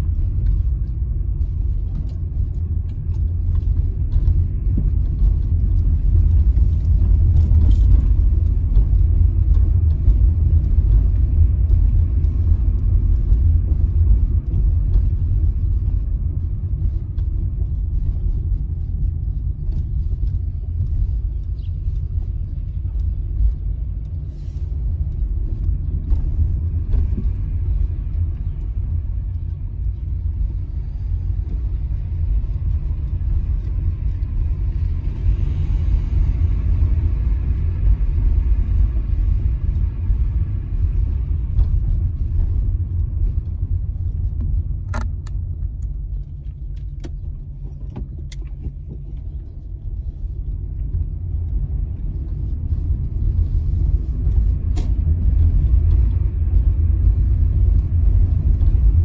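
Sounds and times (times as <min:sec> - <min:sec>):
car engine rumble: 0:00.0 - 0:59.0.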